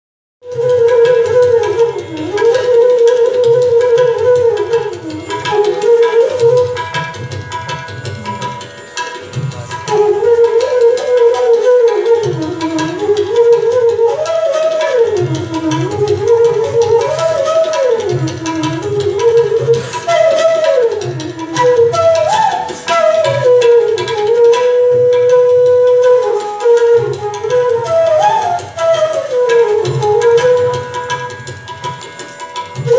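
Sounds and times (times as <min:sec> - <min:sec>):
tabla strokes: 0:00.4 - 0:32.9.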